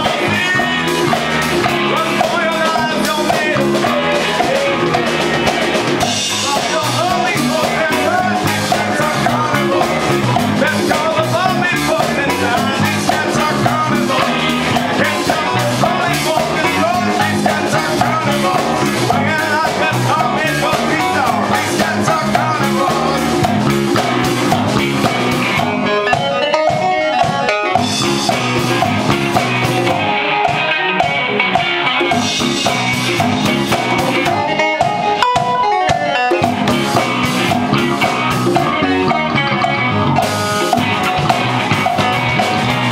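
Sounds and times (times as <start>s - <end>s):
congas: 0.0s - 42.9s
drum kit: 0.0s - 42.9s
electric bass: 0.0s - 42.9s
electric guitar: 0.0s - 42.9s.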